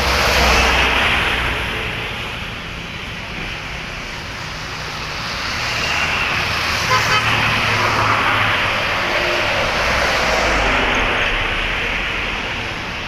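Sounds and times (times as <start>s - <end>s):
cars passing: 0.0s - 13.0s
motorbikes passing: 0.0s - 13.0s.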